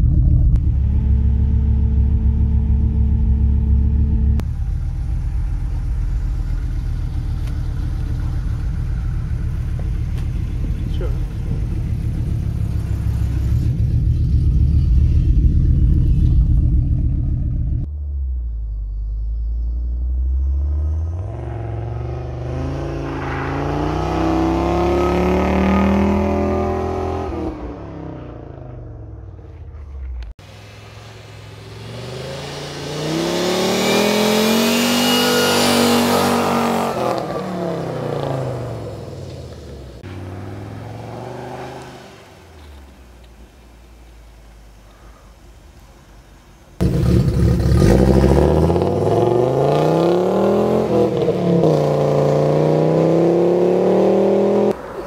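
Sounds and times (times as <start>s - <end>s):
car engine rumbling and revving: 0.0s - 55.0s.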